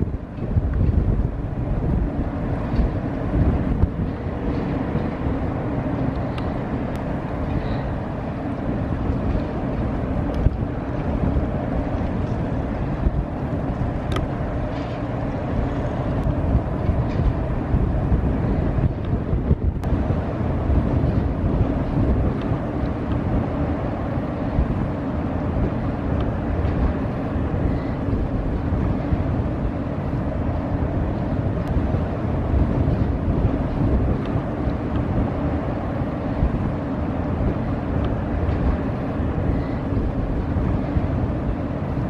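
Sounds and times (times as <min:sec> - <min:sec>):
ship engine rumble: 0:00.0 - 0:42.0
water wash: 0:00.0 - 0:42.0
wind buffeting microphone: 0:00.0 - 0:42.0.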